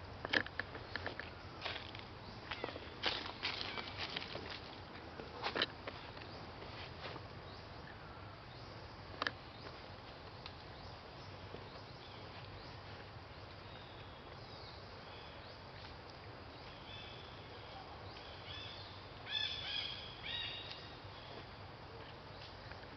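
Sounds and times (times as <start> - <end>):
outdoor background hiss: 0.0 - 22.9.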